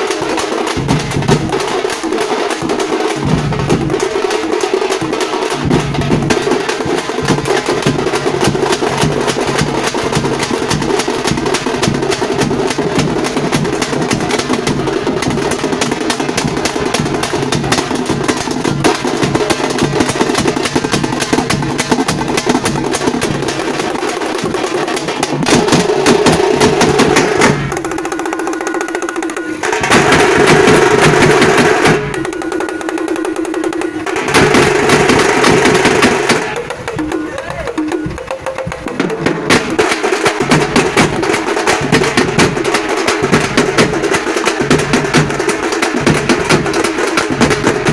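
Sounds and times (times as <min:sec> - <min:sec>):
frame drums rolling rhythm: 0:00.0 - 0:47.9.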